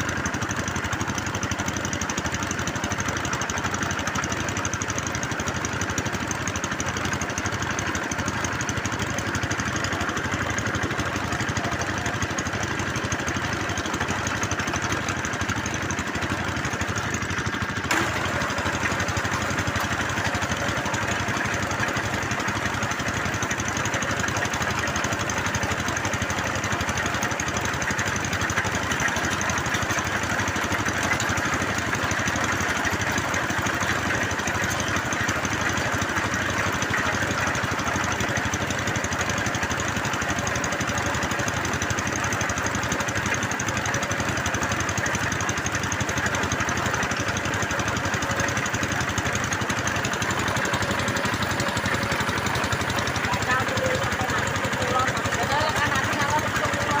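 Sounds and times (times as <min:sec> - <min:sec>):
drilling machine engine running: 0:00.0 - 0:57.0.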